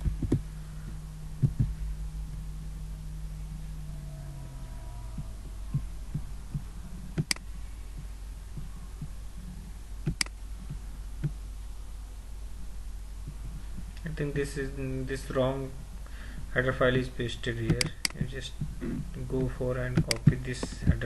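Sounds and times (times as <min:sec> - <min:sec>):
soft low thumps: 0:00.0 - 0:15.1, 0:15.8 - 0:21.0
low electrical hum: 0:00.0 - 0:21.0.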